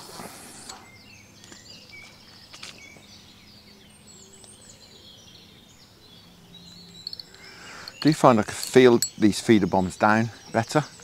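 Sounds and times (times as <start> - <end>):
small birds singing: 0.0 - 11.0.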